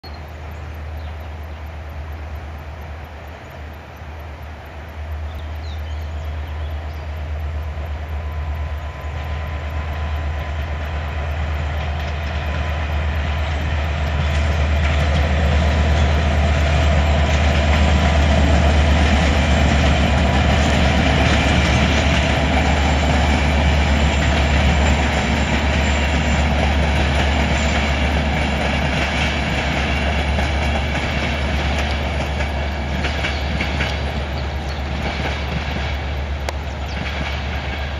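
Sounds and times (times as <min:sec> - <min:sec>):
locomotive engine drone: 0:00.0 - 0:37.9
train wheels clattering on rails: 0:00.0 - 0:37.9.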